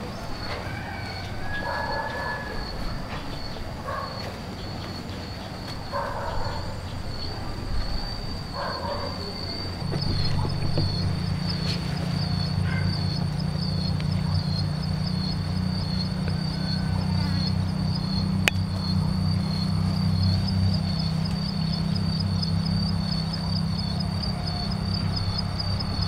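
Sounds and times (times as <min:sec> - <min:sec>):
insects trilling: 0:00.0 - 0:26.0
low hum: 0:00.0 - 0:26.0.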